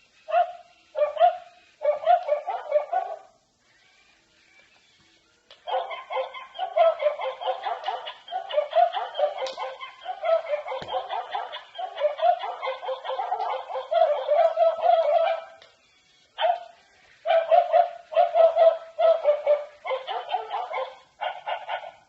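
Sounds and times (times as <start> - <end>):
electronic toy dog noises: 0.0 - 22.0
electronic toy dog barks: 0.2 - 4.1, 5.5 - 22.0.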